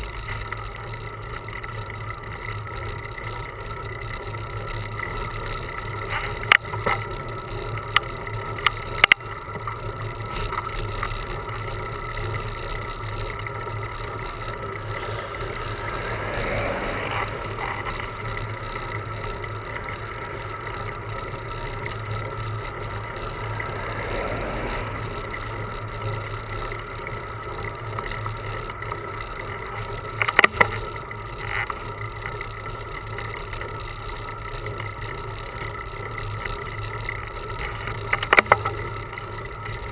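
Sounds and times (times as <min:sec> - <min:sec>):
bicycle clicks and rattles: 0:00.0 - 0:39.9
bicycle riding hum and hiss: 0:00.0 - 0:39.9.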